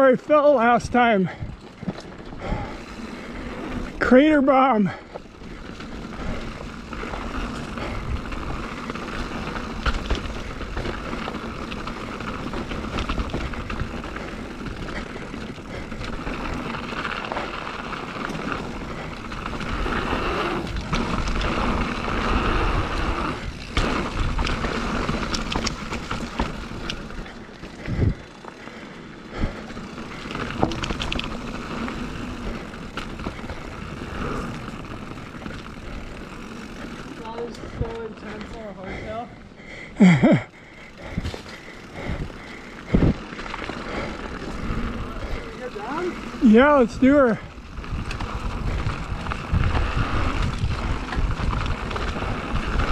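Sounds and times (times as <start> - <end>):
bike rattling and clicking: 0.0 - 52.9
bike tyres rolling on dirt: 0.0 - 52.9.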